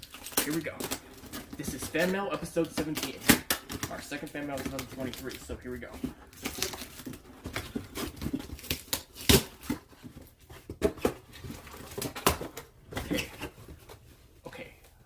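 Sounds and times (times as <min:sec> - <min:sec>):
paper rustling and crinkling: 0:00.0 - 0:14.3.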